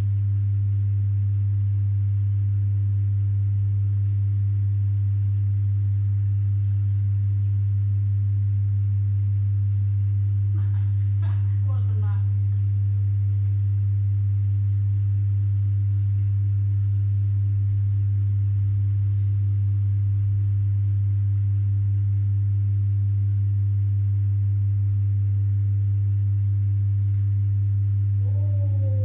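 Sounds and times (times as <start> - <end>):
loud steady low hum: 0.0 - 29.0.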